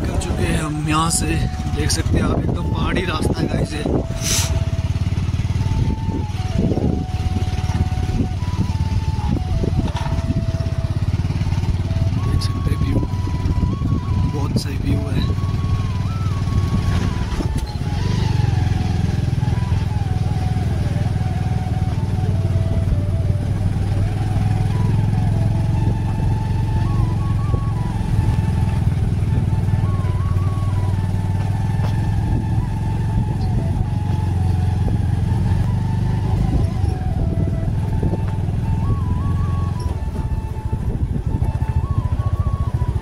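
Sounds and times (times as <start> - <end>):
motorcycle engine rumbling: 0.0 - 43.0
tyres on gravel road: 0.0 - 43.0.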